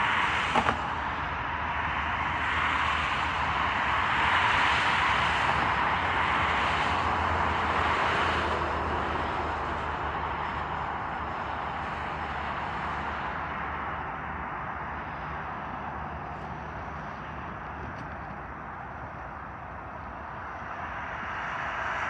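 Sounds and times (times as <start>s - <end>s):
vehicle rushing hiss and drone: 0.0s - 22.0s.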